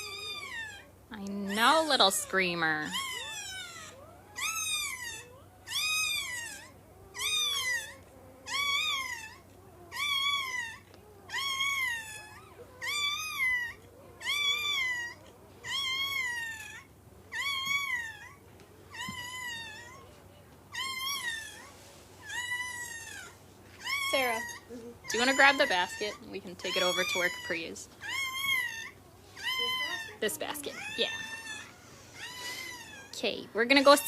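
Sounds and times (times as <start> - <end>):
puppy crying: 0.0 - 34.0.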